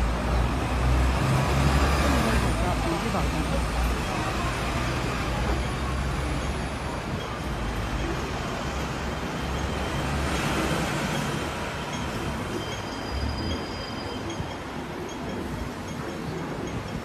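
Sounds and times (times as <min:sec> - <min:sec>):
passing traffic rumble: 0:00.0 - 0:17.0.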